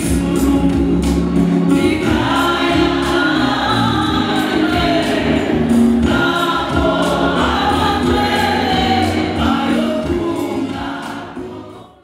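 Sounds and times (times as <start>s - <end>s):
group singing gospel song: 0.0s - 12.0s.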